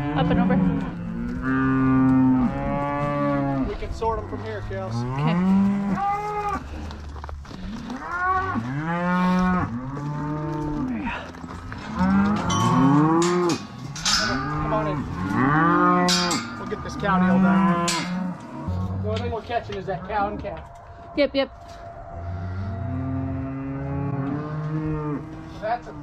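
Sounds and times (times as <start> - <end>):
cows and calves mooing: 0.0 - 6.8, 7.5 - 26.0.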